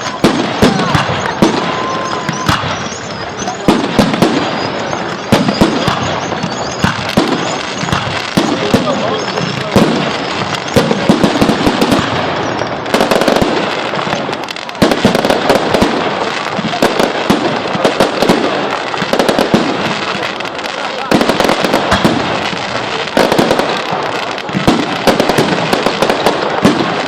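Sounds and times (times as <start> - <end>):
firework bangs: 0.0 - 27.0
fireworks crackling and popping: 0.0 - 27.0.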